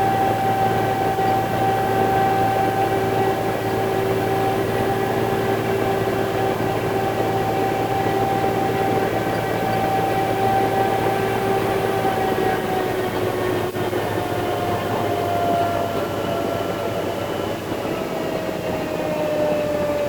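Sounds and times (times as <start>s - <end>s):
constant whine: 0.0s - 20.0s
diesel engine running: 0.0s - 20.0s.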